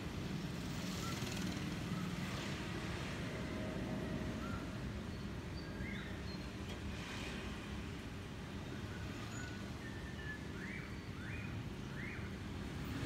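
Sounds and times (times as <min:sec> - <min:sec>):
low rumble of distant engines: 0:00.0 - 0:13.0.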